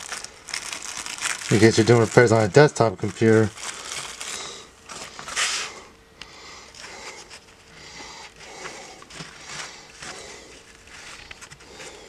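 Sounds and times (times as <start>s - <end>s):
faint rustling and handling: 0.0s - 5.8s, 6.6s - 12.0s.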